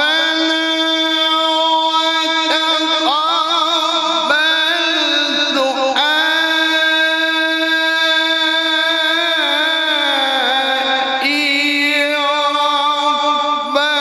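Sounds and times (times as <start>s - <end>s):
man chanting melismatically: 0.0s - 14.0s.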